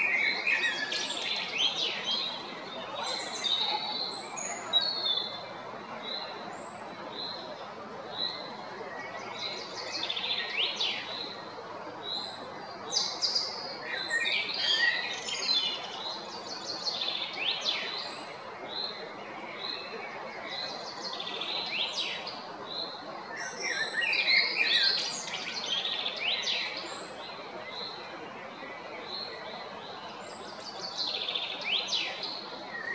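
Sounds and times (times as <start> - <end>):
songbirds twittering: 0.0 - 32.9
steady background hiss: 0.0 - 32.9.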